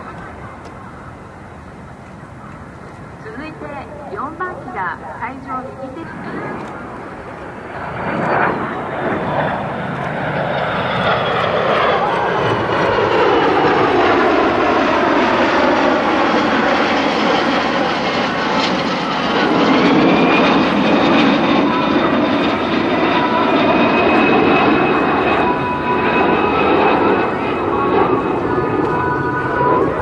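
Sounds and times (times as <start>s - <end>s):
jet engines flying overhead: 0.0s - 30.0s.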